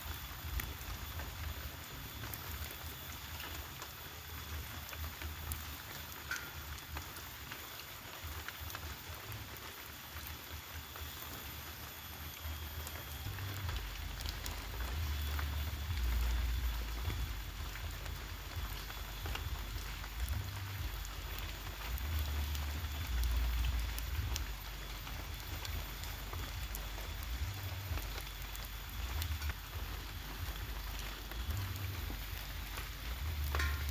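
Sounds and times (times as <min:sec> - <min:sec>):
rain hissing: 0:00.0 - 0:33.9
raindrops ticking: 0:00.0 - 0:33.9.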